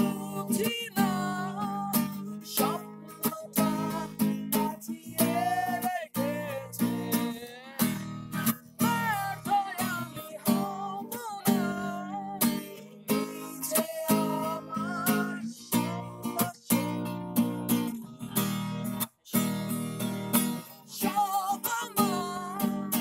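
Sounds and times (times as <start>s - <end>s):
acoustic guitar strumming: 0.0s - 23.0s
person singing: 0.0s - 23.0s.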